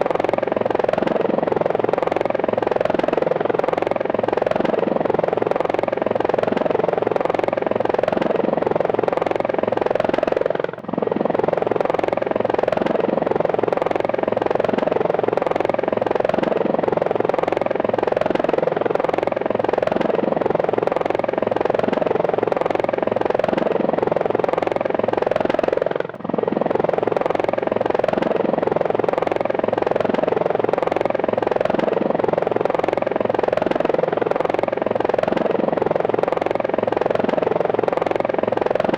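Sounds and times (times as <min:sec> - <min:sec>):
helicopter in flight: 0:00.0 - 0:38.9.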